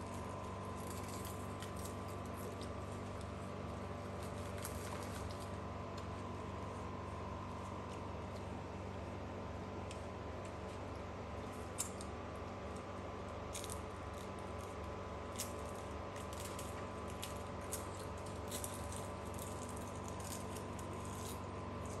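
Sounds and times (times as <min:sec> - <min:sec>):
room tone hum: 0:00.0 - 0:22.0.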